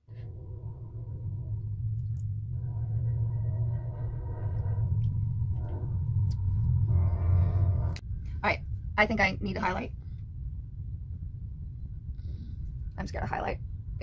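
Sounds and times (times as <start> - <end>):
low rumbling hum: 0.0 - 14.0.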